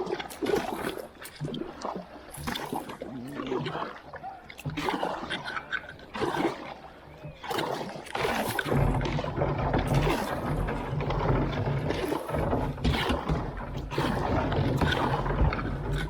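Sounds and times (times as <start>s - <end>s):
paddle strokes splashing in water: 0.0s - 16.0s.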